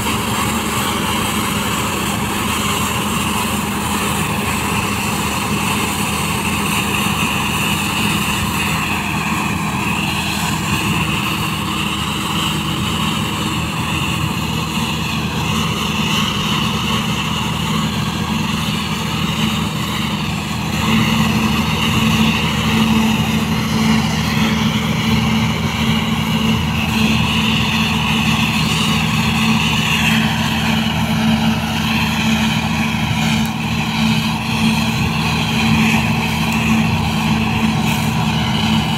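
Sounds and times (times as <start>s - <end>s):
combine harvester engine drone: 0.0s - 38.9s
wavering high whine: 0.0s - 38.9s.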